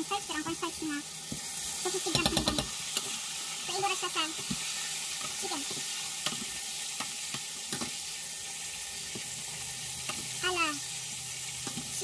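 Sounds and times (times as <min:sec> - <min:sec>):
wings sizzling in hot oil: 0:00.0 - 0:12.0.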